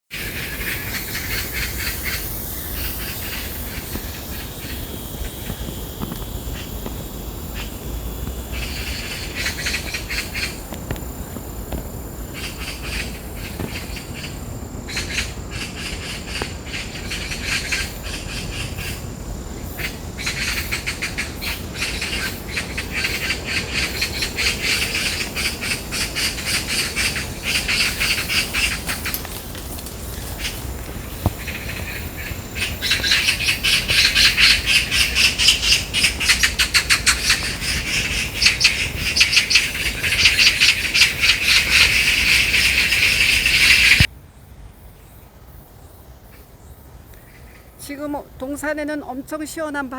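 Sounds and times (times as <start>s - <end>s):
magpies chattering: 0.1s - 44.1s
insect buzz: 0.1s - 49.9s.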